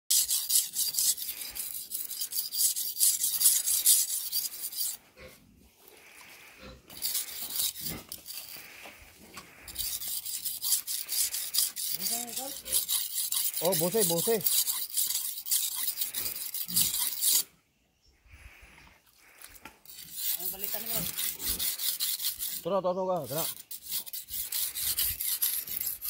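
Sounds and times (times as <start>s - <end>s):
knife scraping on sharpening stone: 0.1s - 5.3s, 6.6s - 8.8s, 9.4s - 17.5s, 19.8s - 26.0s.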